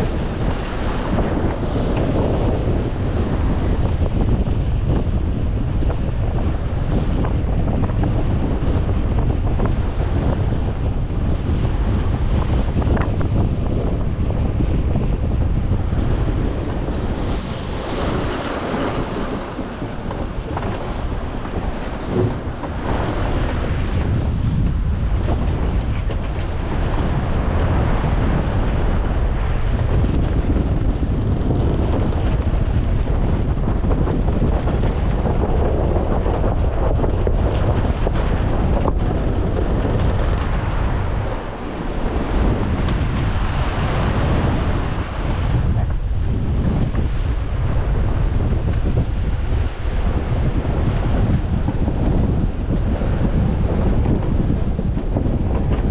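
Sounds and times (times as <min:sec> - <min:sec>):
waves splashing: 0:00.0 - 0:55.9
wind buffeting microphone: 0:00.0 - 0:55.9.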